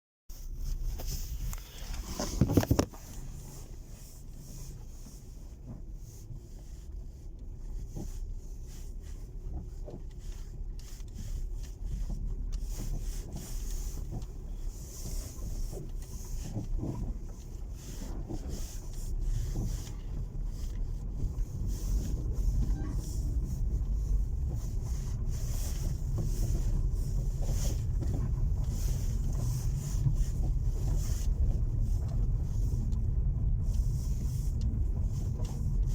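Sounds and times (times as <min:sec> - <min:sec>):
road and tyre rumble: 0:00.3 - 0:35.9.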